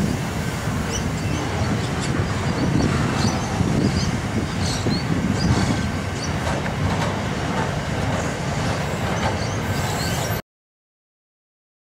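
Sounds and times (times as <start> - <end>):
train wheels rumbling on rail: 0.0 - 10.4.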